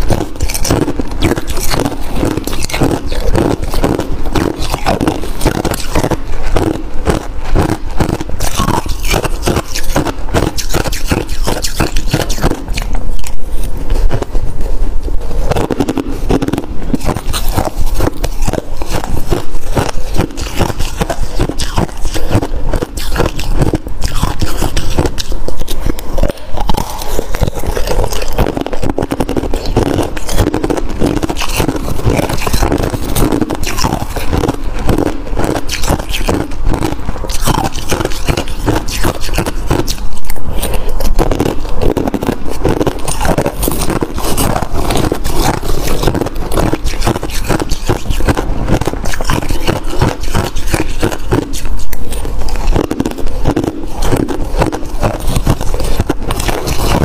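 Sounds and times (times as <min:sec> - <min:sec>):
metal spoon scraping frost: 0:00.0 - 0:14.4, 0:15.4 - 0:57.0
crunching and chewing frost: 0:00.0 - 0:57.0.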